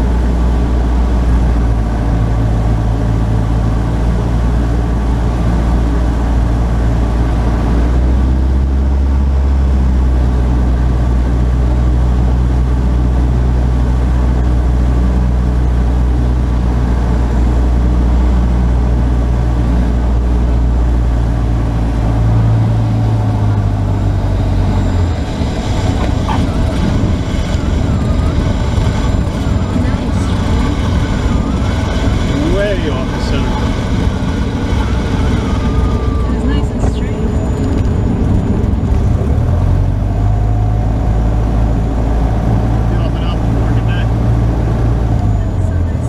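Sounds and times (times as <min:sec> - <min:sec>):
airplane engine drone: 0:00.0 - 0:46.0
plane rolling on runway: 0:00.0 - 0:46.0.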